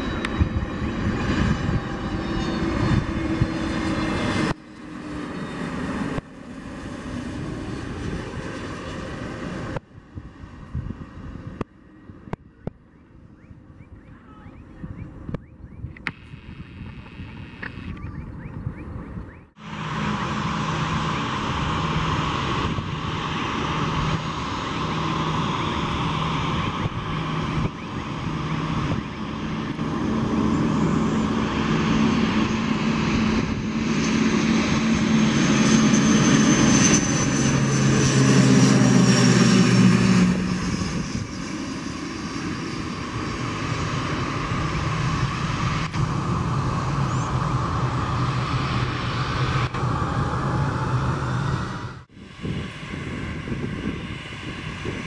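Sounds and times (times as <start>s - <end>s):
turboprop plane droning: 0.0s - 55.0s.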